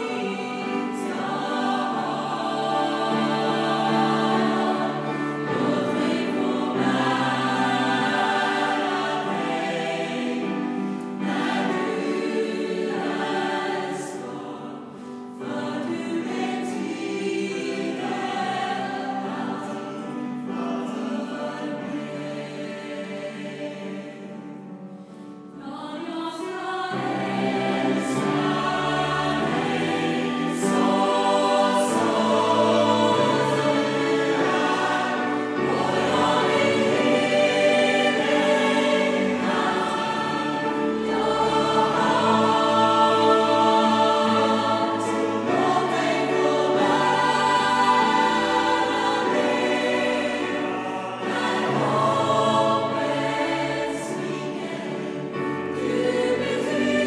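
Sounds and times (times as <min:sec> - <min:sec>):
choir singing in harmony: 0:00.0 - 0:57.0
keyboard: 0:00.0 - 0:57.0.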